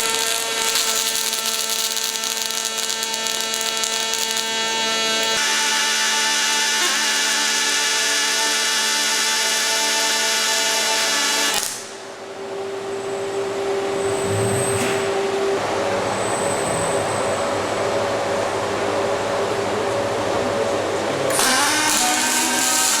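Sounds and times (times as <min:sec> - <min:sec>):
machinery whine: 0:00.0 - 0:23.0
noisy machine hum: 0:00.0 - 0:23.0.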